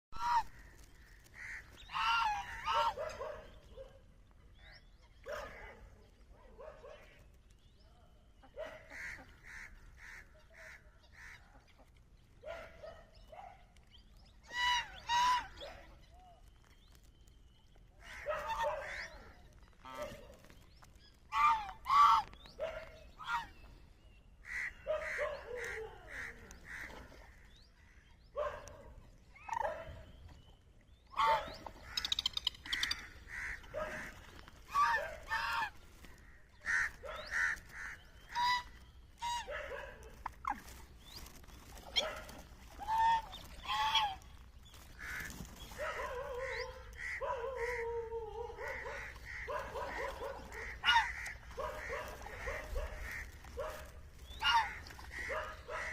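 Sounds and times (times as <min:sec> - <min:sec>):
waterfowl calling: 0:00.2 - 0:03.8, 0:08.4 - 0:13.0, 0:14.4 - 0:16.5, 0:18.0 - 0:23.7, 0:24.4 - 0:28.7, 0:31.1 - 0:55.9.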